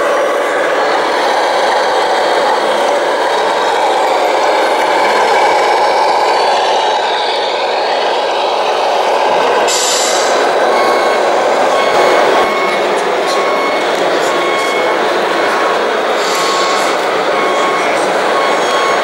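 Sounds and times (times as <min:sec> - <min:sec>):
model truck engine rumble: 0:00.0 - 0:19.0.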